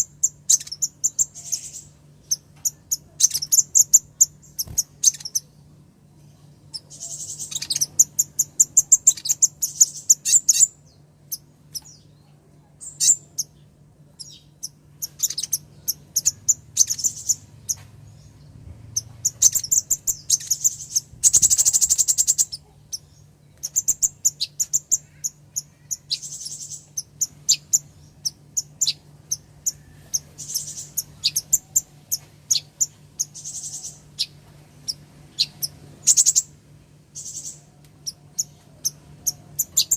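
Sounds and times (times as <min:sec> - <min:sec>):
faint low hum: 0:00.0 - 0:39.9
sunbird high chirps and trills: 0:00.0 - 0:39.9.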